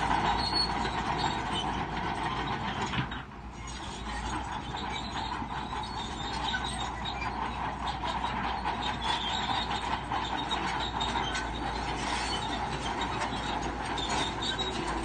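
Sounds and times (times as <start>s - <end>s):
diesel engine running: 0.0s - 15.0s
steel tracks clattering and squealing: 0.0s - 15.0s.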